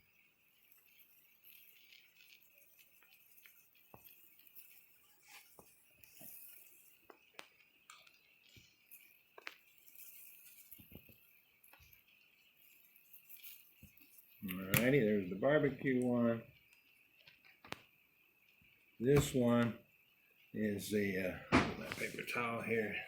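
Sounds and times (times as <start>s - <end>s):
faint steady high hiss: 0.0s - 23.0s
soft clicks and taps of seasoning: 0.1s - 15.1s, 15.8s - 19.8s.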